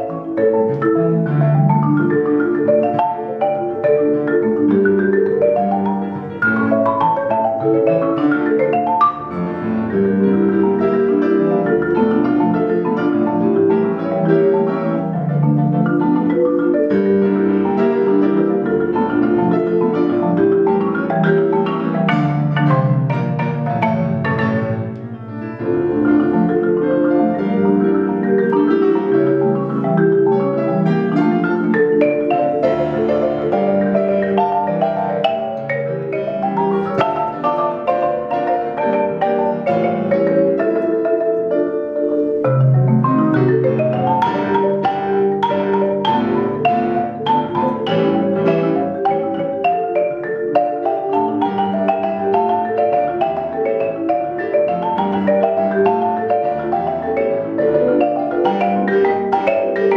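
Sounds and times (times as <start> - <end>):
marimba played with mallets: 0.0 - 59.9.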